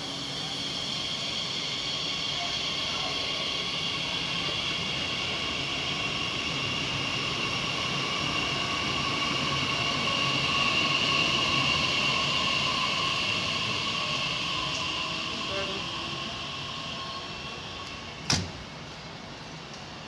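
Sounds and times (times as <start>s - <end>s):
electric train motor whine: 0.0s - 18.6s
train wheels rumbling on rails: 0.0s - 20.0s.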